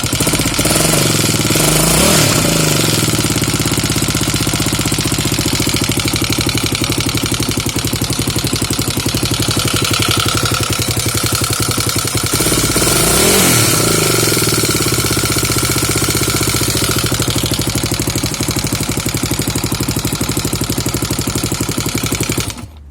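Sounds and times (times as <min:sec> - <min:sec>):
motorcycle engine idling and revving: 0:00.0 - 0:22.9.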